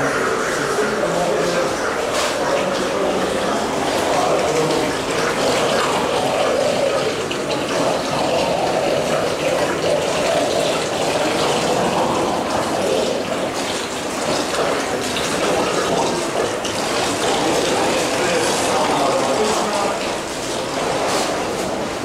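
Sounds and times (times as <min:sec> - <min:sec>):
whirlpool tub jets bubbling: 0:00.0 - 0:22.0.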